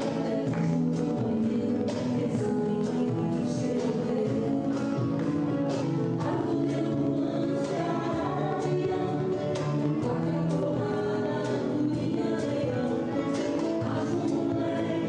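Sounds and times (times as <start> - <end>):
children's song with singing: 0.0 - 15.0.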